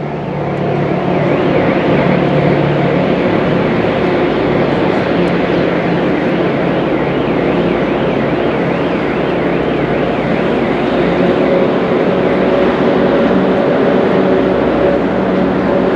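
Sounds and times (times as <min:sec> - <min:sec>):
diesel train engine hum: 0:00.0 - 0:15.9
train rumble: 0:00.0 - 0:15.9.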